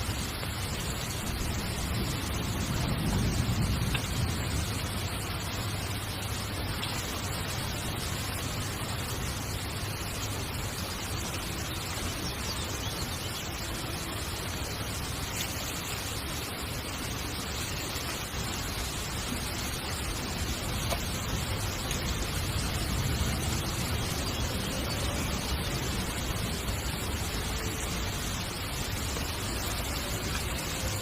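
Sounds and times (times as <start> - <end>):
heavy rain on a tent: 0.0 - 31.0.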